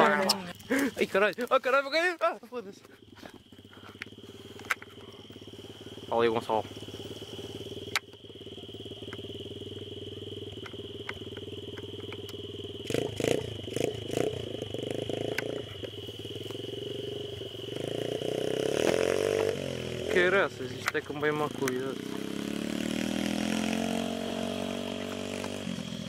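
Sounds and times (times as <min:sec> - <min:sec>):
dirt bike engine revving: 0:03.1 - 0:26.0.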